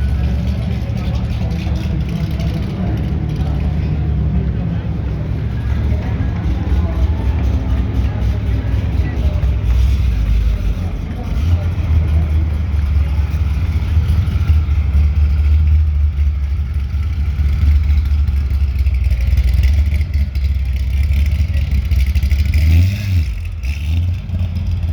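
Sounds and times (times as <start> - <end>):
car engine idling with deep rumble: 0.0 - 24.9.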